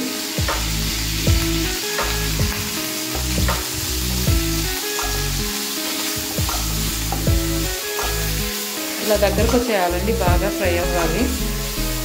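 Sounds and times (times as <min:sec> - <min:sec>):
background music with beats: 0:00.0 - 0:12.0
paste sizzling in hot oil: 0:00.0 - 0:12.0.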